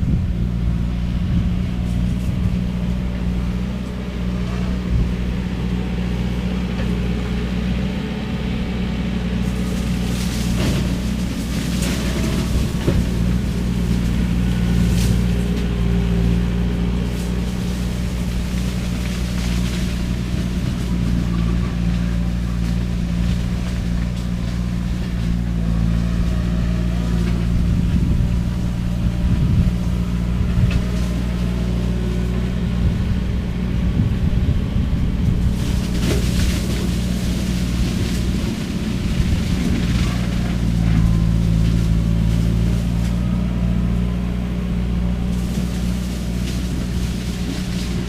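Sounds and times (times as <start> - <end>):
cane crackling and crunching: 0.0 - 48.0
skid steer engine under load: 0.0 - 48.0.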